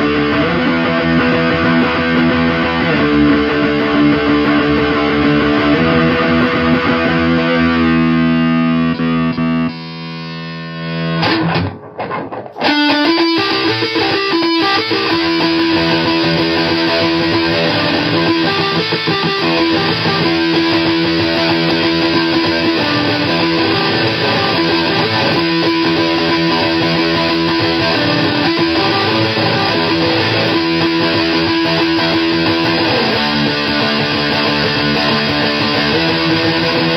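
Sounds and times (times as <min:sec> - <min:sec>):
fuzz electric guitar riffing: 0:00.0 - 0:36.9.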